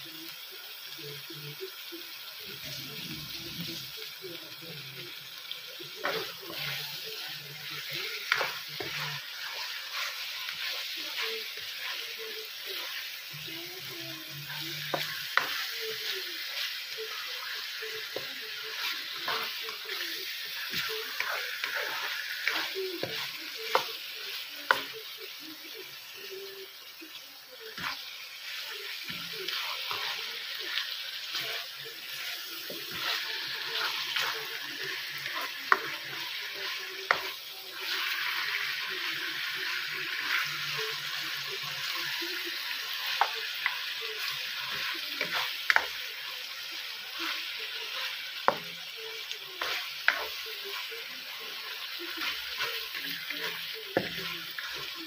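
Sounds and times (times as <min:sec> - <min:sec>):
food sizzling in a frying pan: 0:00.0 - 0:55.0
spatula scraping a pan: 0:05.8 - 0:26.2, 0:27.7 - 0:55.0.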